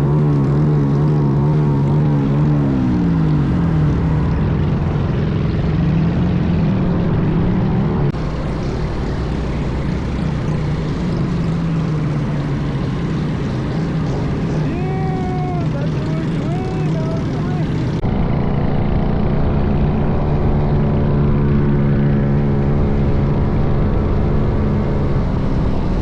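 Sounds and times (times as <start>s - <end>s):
minibike engine running: 0.0s - 26.0s.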